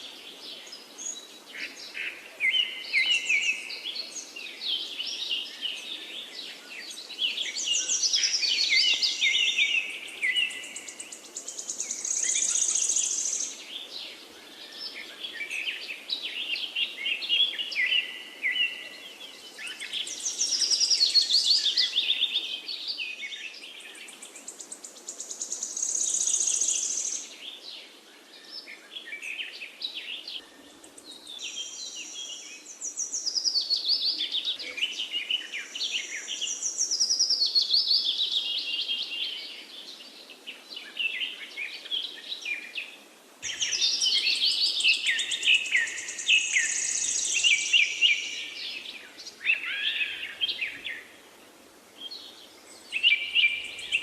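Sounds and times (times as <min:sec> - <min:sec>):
faint steady hiss: 0:00.0 - 0:54.0
songbirds chirping and trilling: 0:00.0 - 0:54.0.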